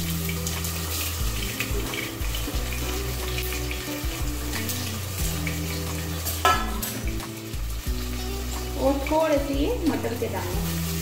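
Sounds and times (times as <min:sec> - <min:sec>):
background music: 0:00.0 - 0:11.0
vegetables sizzling in hot oil: 0:00.0 - 0:11.0.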